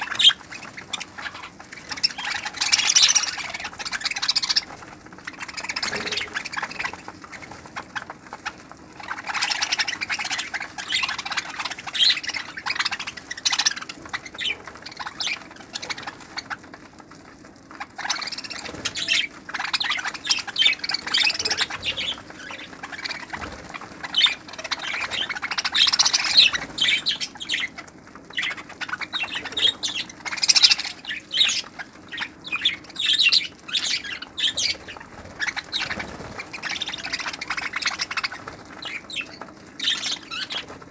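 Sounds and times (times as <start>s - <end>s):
budgerigars chattering: 0.0s - 16.8s, 17.8s - 40.8s.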